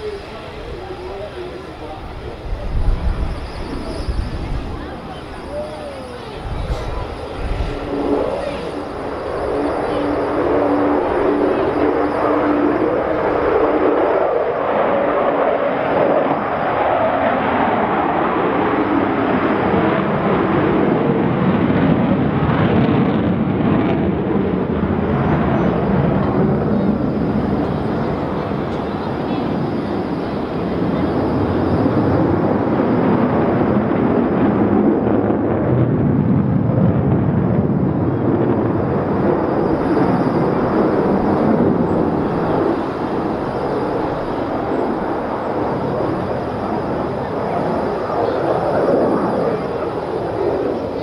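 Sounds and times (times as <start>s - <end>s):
jet engine rumble: 0.0s - 51.0s.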